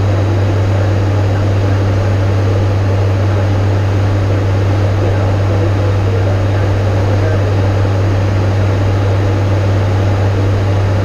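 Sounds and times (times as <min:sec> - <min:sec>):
low propeller hum: 0:00.0 - 0:11.0.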